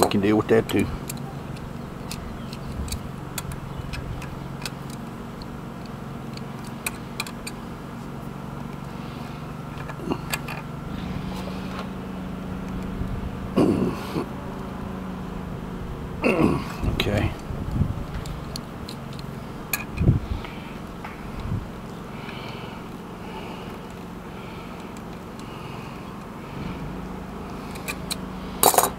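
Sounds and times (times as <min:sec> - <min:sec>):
low hum: 0:00.0 - 0:28.9.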